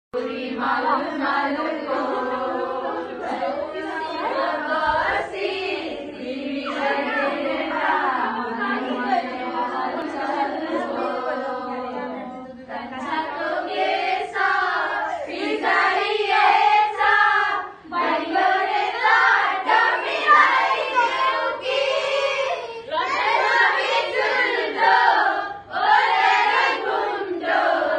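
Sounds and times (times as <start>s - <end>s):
girls singing together: 0.1s - 27.9s.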